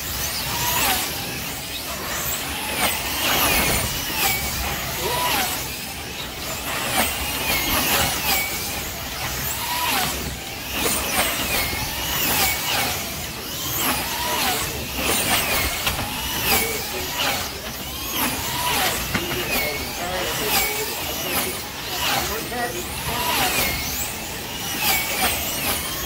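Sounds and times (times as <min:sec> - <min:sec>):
slot car motors whining: 0:00.0 - 0:26.0.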